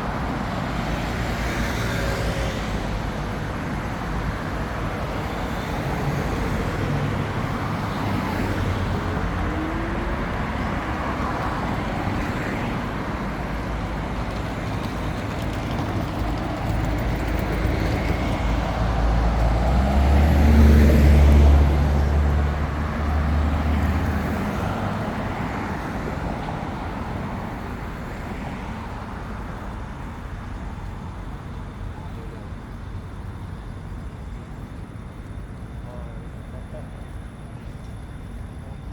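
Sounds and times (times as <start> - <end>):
passing cars: 0.0 - 38.9
heavy vehicle engine rumble: 2.6 - 38.9.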